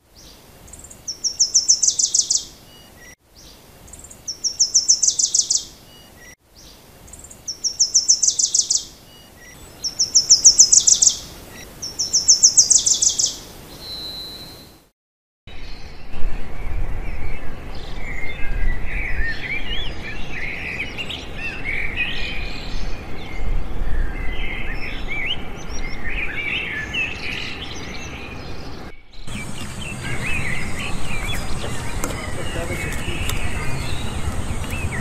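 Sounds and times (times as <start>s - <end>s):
small birds chirping: 0.1s - 14.8s, 17.0s - 35.0s.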